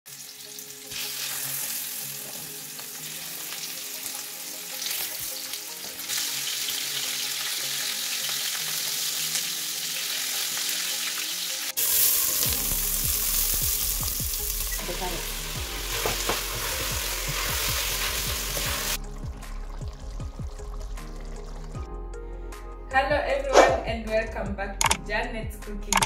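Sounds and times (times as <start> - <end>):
onions sizzling in pot: 0.1 - 21.8
meat sizzling in hot oil: 0.1 - 21.9.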